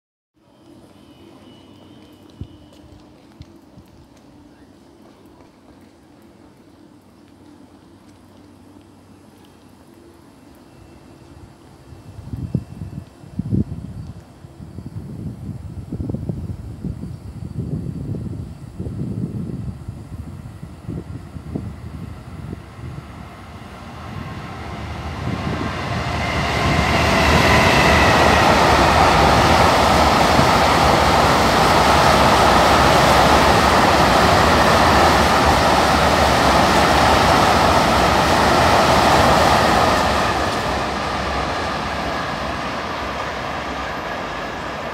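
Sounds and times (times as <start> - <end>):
freight train passing: 0.4 - 44.9.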